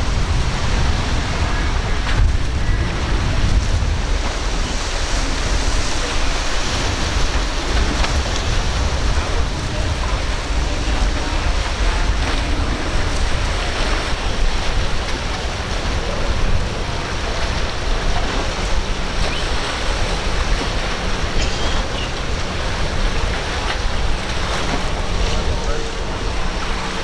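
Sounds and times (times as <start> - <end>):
surf and breaking waves: 0.0 - 27.0
wind rumbling on microphone: 0.0 - 27.0.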